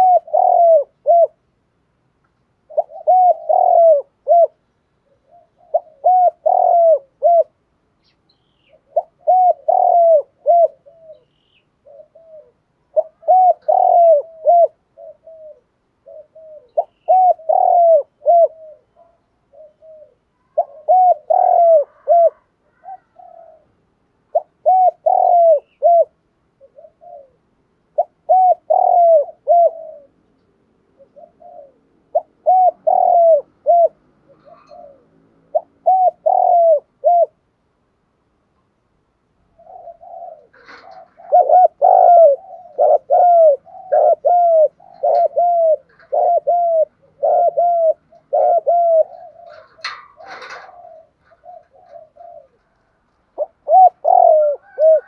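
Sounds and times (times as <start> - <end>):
dove cooing: 0.0 - 1.5, 2.6 - 7.7, 8.5 - 37.5, 39.4 - 55.0.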